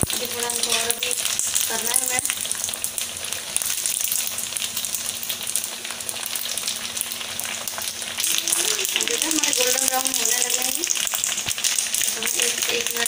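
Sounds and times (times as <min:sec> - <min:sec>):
pasta deep-frying in oil: 0:00.0 - 0:13.0.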